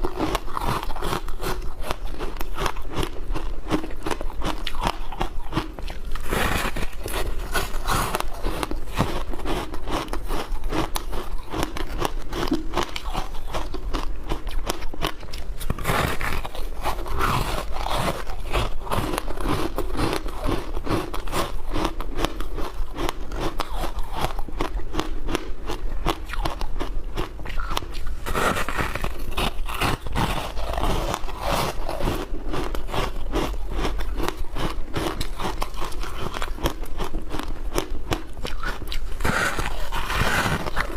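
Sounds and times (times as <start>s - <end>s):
crunching and chewing shaved ice: 0.0s - 40.9s.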